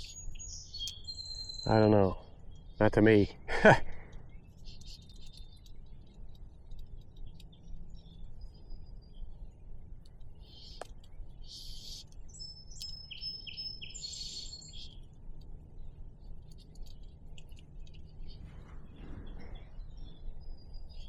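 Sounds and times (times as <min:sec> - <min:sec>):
birds chirping and singing: 0:00.0 - 0:21.0.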